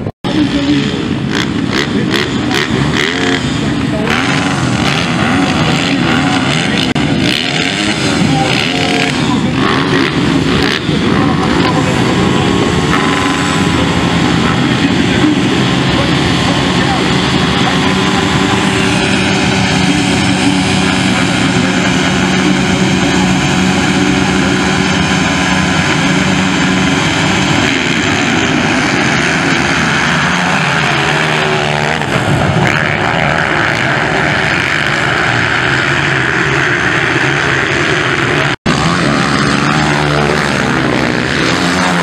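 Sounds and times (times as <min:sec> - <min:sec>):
motocross bikes revving: 0:00.0 - 0:42.0.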